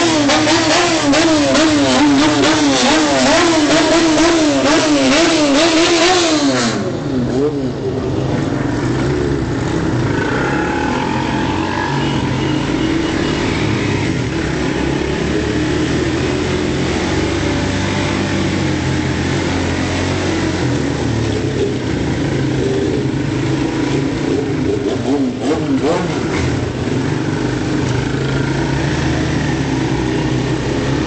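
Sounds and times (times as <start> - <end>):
motorcycle engines droning: 0.0 - 31.0.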